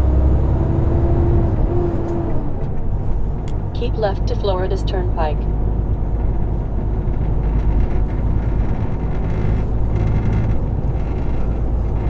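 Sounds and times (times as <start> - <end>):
truck diesel engine rumble: 0.0 - 12.0.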